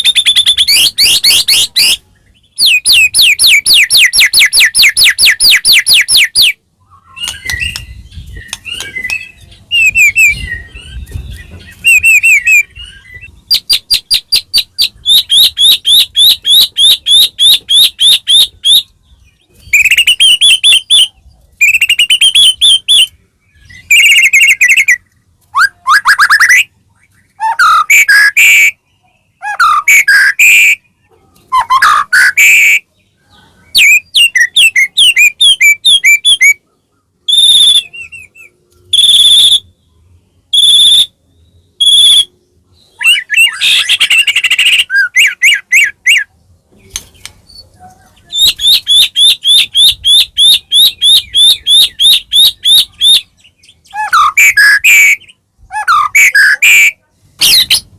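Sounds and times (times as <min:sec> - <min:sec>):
bird singing whistled notes: 0:00.0 - 0:36.6, 0:37.2 - 0:46.3, 0:48.3 - 0:57.9.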